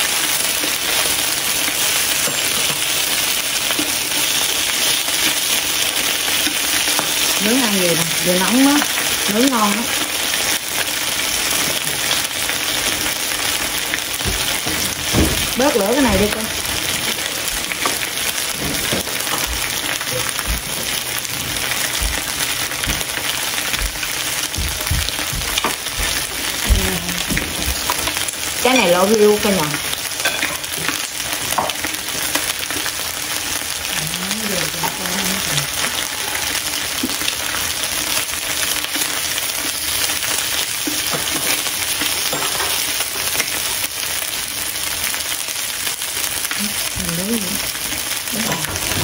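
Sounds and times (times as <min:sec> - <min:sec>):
pork sizzling on a grill: 0:00.0 - 0:49.0
fat popping and crackling: 0:01.0 - 0:43.6.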